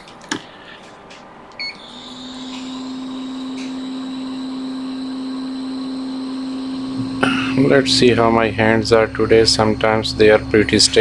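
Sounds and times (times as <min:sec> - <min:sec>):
hot air blower humming: 0:01.6 - 0:11.0.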